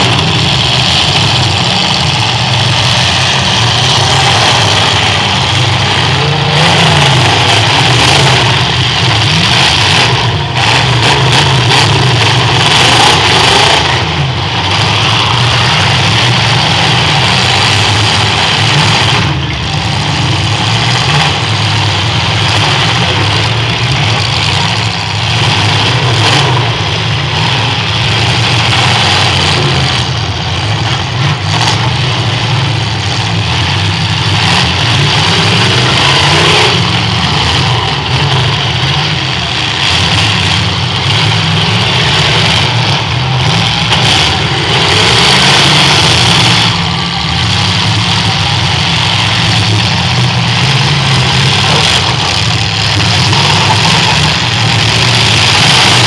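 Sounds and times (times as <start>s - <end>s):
car engines roaring together: 0.0s - 56.0s.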